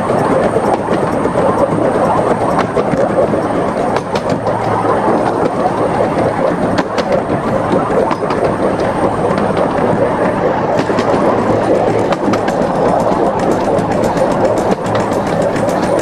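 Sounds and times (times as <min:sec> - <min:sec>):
steam locomotive running: 0:00.0 - 0:16.0.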